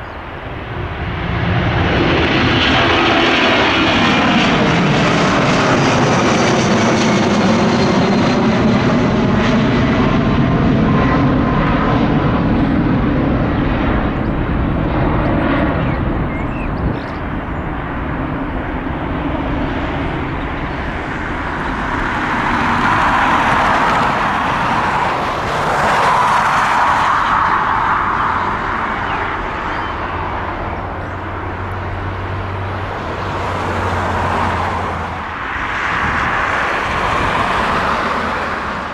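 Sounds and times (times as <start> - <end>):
jet engine roar: 0.0 - 38.9
jet engine whine: 0.0 - 38.9.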